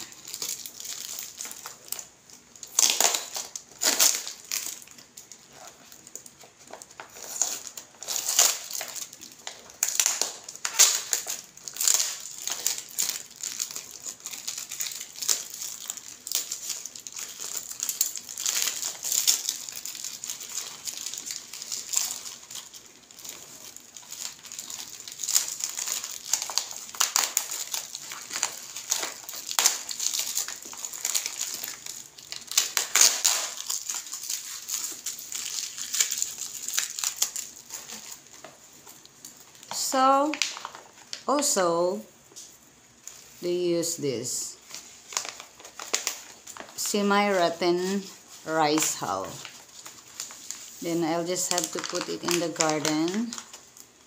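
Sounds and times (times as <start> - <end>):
packing wrap crinkling: 0.0 - 54.0.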